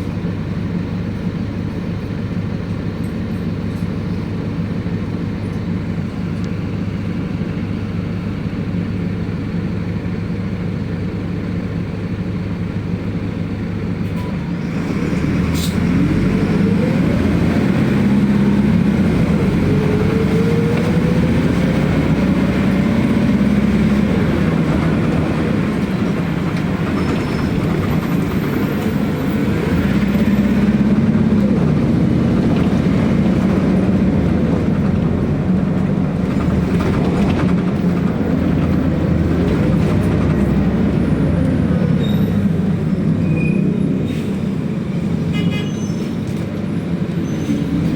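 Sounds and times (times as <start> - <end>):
bus engine accelerating: 0.0 - 47.9.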